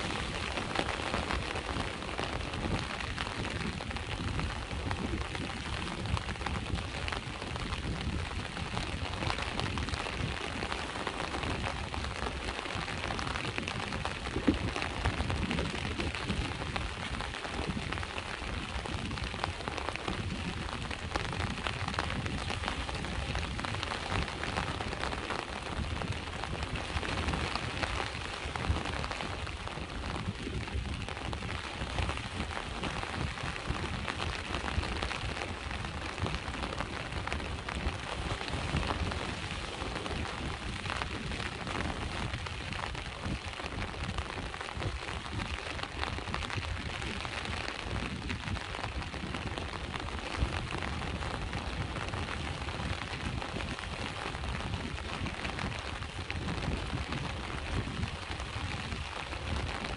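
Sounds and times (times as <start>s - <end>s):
constant low rumble: 0.0s - 59.9s
steady rain pattering: 0.0s - 59.9s.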